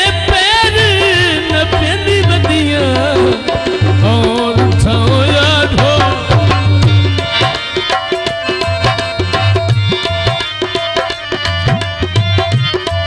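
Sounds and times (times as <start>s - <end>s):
harmonium reed tones: 0.0s - 13.0s.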